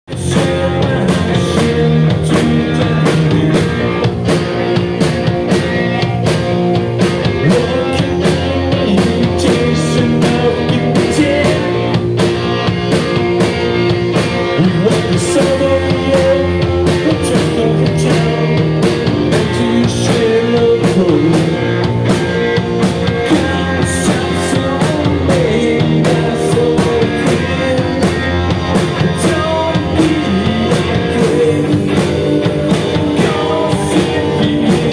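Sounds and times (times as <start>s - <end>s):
drum beat: 0.1s - 34.9s
live rock band playing: 0.1s - 34.9s.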